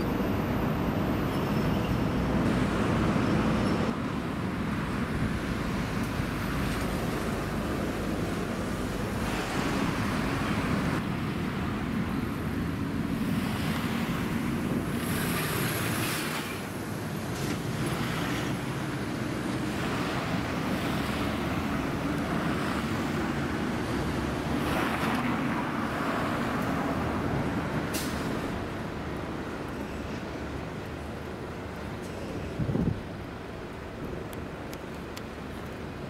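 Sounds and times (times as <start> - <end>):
cars passing: 0.0 - 34.6
wind rumble on microphone: 2.2 - 27.9, 32.4 - 36.0.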